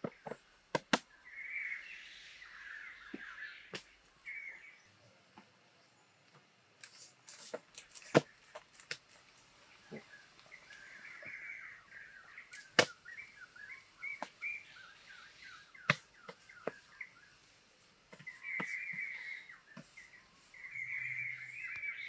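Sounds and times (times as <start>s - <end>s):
birds calling and chattering: 0.0s - 22.0s.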